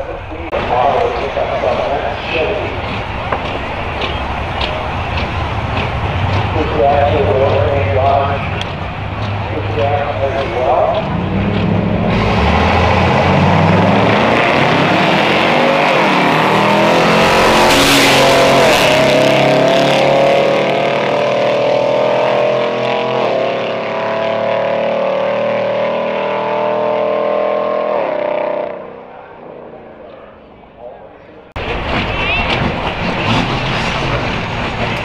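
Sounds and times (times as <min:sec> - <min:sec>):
racing engine accelerating: 0:00.5 - 0:30.4.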